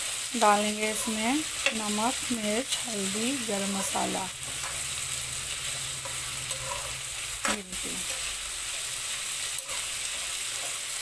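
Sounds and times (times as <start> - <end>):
vegetables sizzling in oil: 0.0 - 11.0
metal spatula scraping: 0.8 - 11.0.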